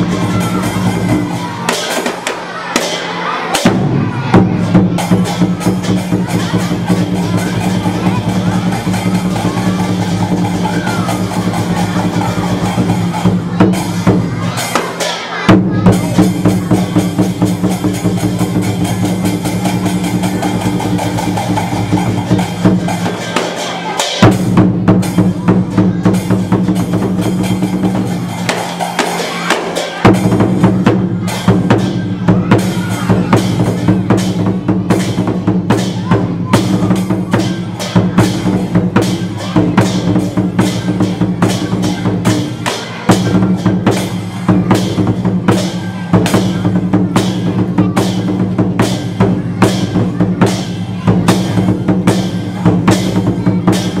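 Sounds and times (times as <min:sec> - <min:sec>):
crashing cymbals: 0:00.0 - 0:15.3, 0:16.0 - 0:54.0
drum beating rhythm: 0:00.0 - 0:54.0.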